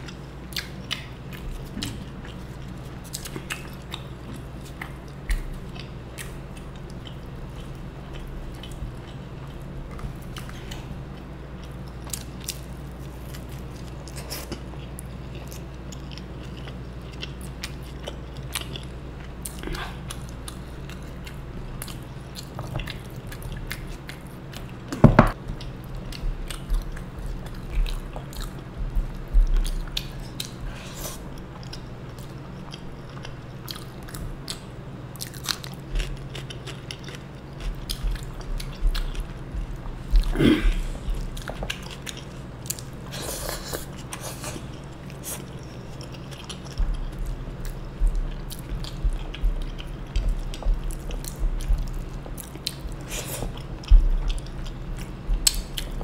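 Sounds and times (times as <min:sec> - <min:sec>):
chewing and biting food: 0:00.0 - 0:56.0
low steady hum: 0:00.0 - 0:56.0.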